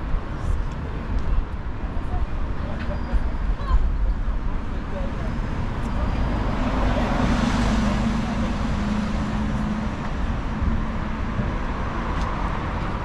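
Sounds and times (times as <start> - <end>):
steady traffic noise: 0.0 - 13.0.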